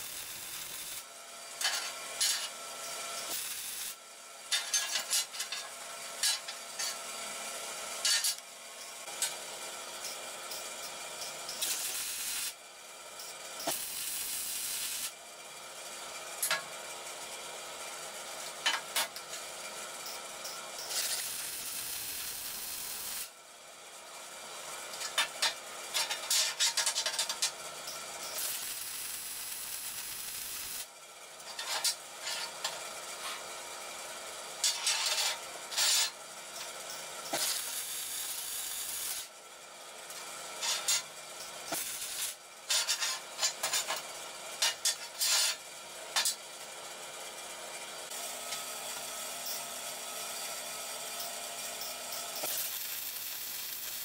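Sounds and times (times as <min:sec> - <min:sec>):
welding arc sizzle: 0:00.0 - 0:15.2, 0:16.3 - 0:23.4, 0:24.3 - 0:39.4, 0:40.0 - 0:46.8, 0:48.0 - 0:54.0.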